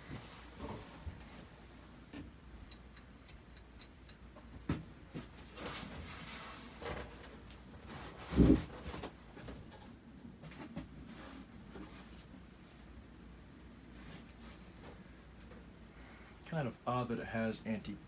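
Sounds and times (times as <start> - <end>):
ceiling fan running: 0.0 - 18.0.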